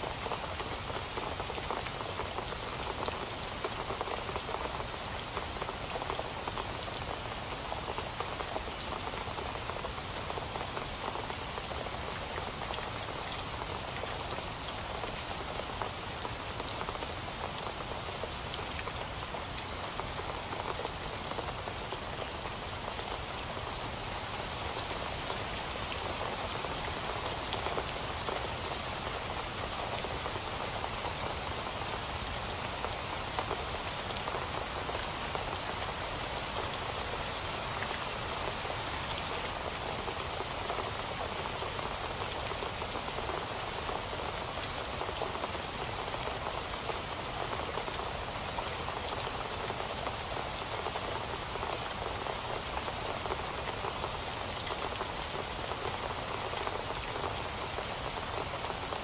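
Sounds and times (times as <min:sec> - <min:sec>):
raindrops pattering on a surface: 0:00.0 - 0:59.0
steady rain falling: 0:00.0 - 0:59.0.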